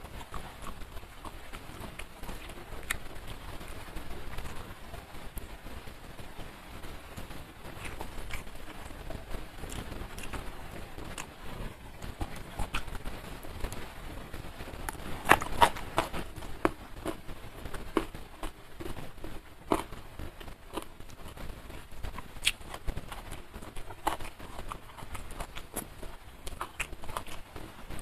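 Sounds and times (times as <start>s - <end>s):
person chewing food: 0.0s - 5.5s, 7.1s - 13.9s, 14.8s - 28.0s.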